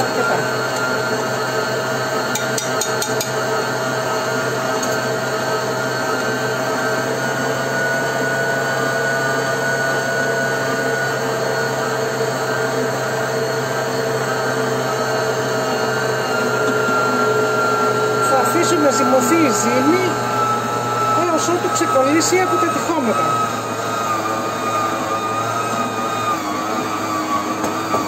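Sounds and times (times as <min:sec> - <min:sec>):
stand mixer motor running: 0:00.0 - 0:28.0.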